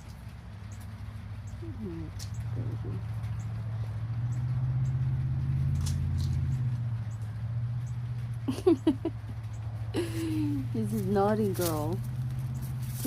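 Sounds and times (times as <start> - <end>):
deep rumble: 1.0 - 13.0.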